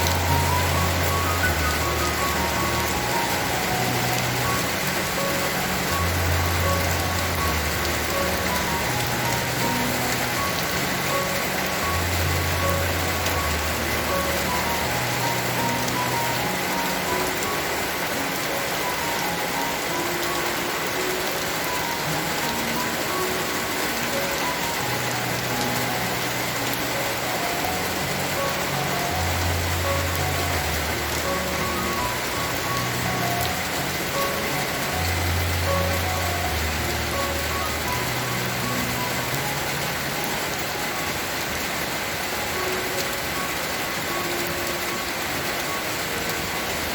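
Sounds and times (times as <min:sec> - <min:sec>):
heavy rain: 0:00.0 - 0:46.9
soft background music: 0:00.0 - 0:46.9.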